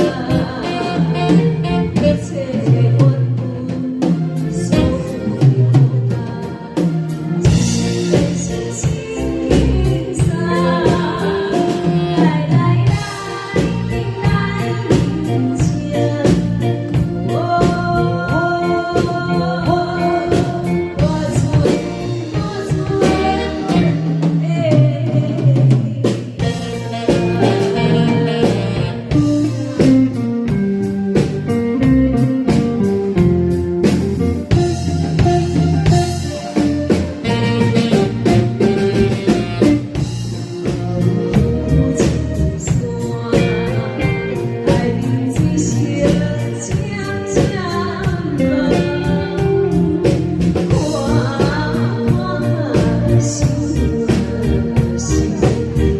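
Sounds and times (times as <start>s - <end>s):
person singing: 0.0s - 30.3s, 34.4s - 55.9s
band backing track: 0.0s - 55.9s.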